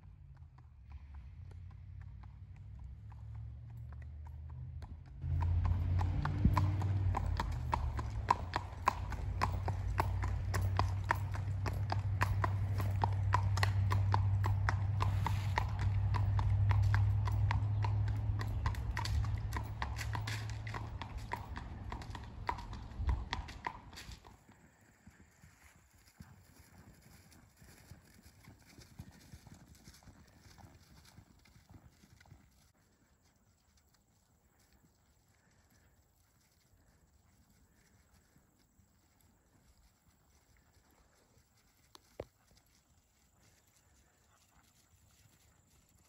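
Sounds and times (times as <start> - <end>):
horse hooves clip-clopping on pavement: 0.0 - 46.0.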